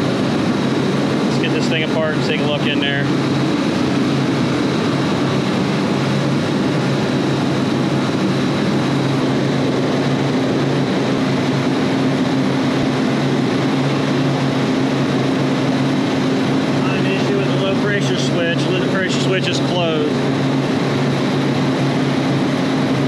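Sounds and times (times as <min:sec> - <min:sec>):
refrigeration machinery drone: 0:00.0 - 0:23.0.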